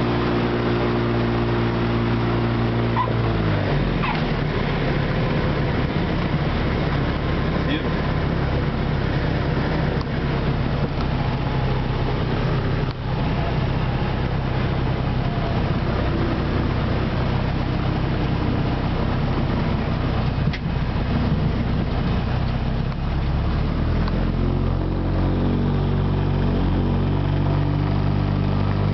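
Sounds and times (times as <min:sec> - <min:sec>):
light aircraft engine and propeller: 0:00.0 - 0:28.9.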